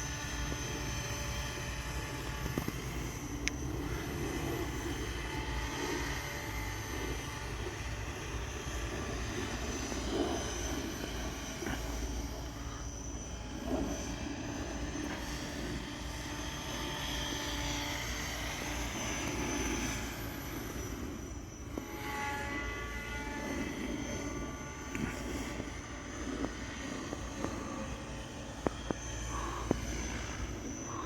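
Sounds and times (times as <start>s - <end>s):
model helicopter whine: 0.0s - 31.0s.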